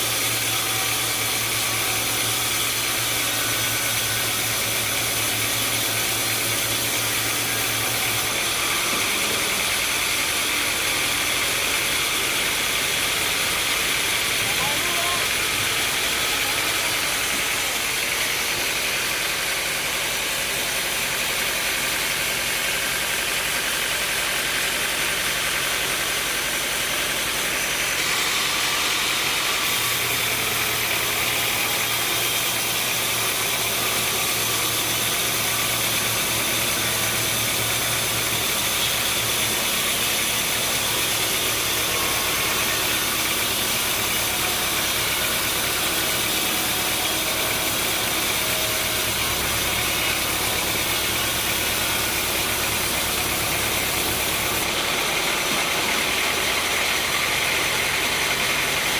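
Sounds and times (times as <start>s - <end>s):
sawmill machinery droning: 0.0s - 58.9s.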